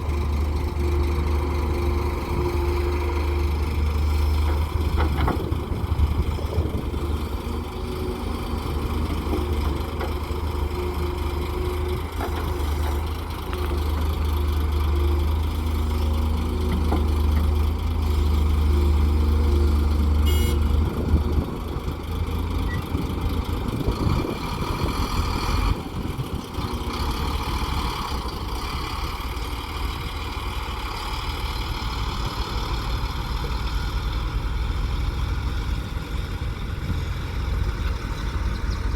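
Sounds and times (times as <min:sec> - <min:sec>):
diesel machinery engine drone: 0:00.0 - 0:38.9.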